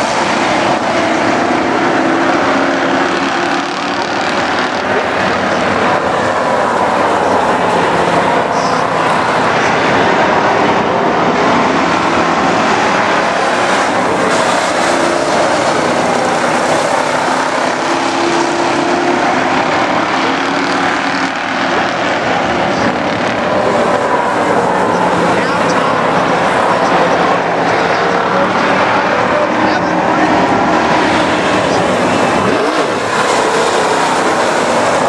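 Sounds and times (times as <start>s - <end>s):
race car engines running: 0.0s - 35.0s.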